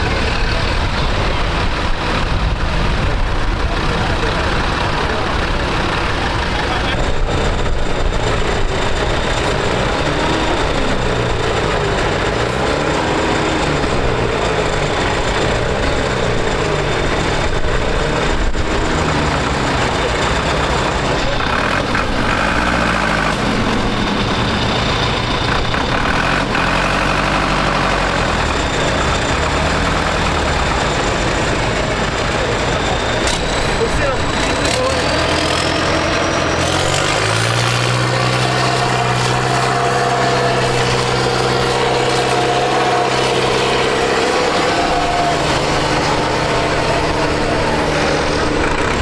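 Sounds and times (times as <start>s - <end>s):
diesel tractor engine revving: 0.0s - 49.0s.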